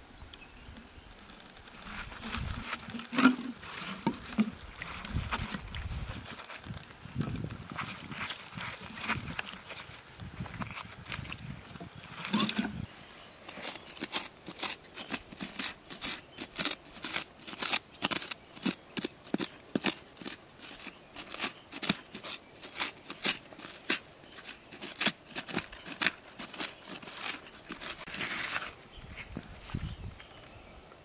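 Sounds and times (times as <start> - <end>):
hand tool scraping soil: 1.2 - 30.4.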